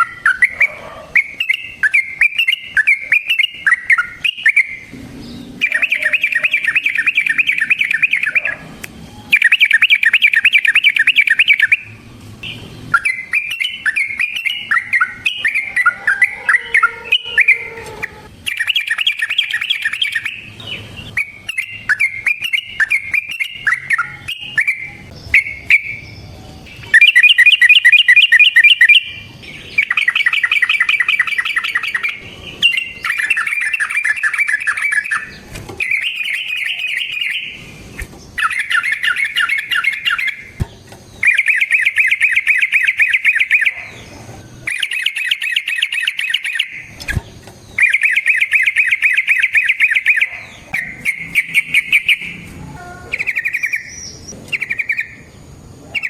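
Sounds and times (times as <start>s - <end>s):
bird chattering notes: 0.0s - 40.6s, 41.2s - 46.9s, 47.7s - 52.5s, 53.1s - 55.3s
bulbul singing trilled phrases: 0.0s - 56.0s.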